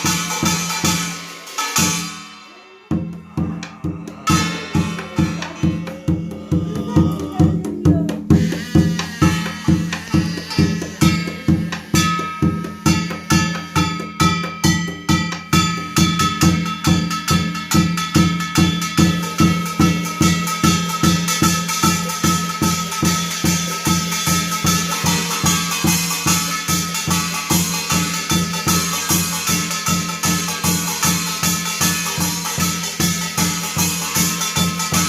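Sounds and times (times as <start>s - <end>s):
drum beating steady rhythm: 0.0s - 35.0s.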